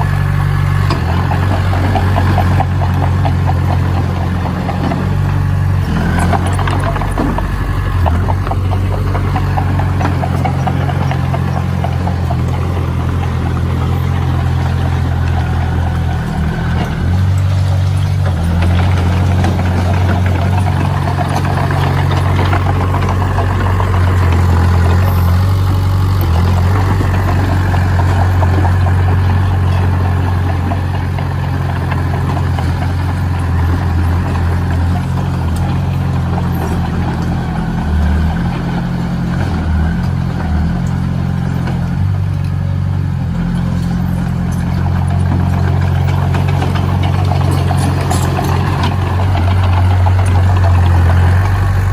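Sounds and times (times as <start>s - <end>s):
heavy machine engine rumbling: 0.0s - 51.9s.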